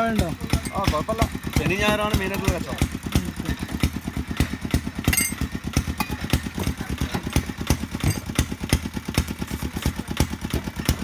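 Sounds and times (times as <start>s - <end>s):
single-cylinder engine idling: 0.0s - 11.0s.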